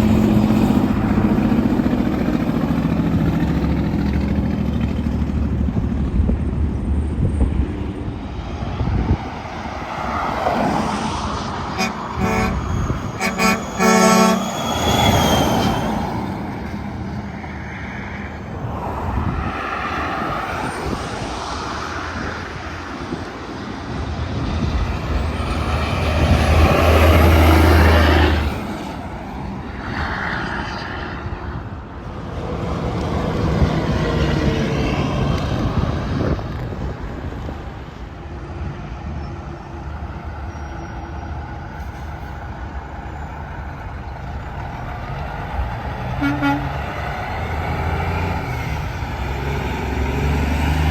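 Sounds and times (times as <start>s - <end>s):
trucks passing at speed: 0.0s - 50.9s.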